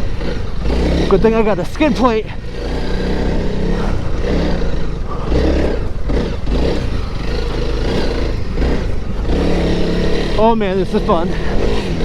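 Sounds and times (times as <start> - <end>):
motorcycle engine climbing: 0.0 - 12.0.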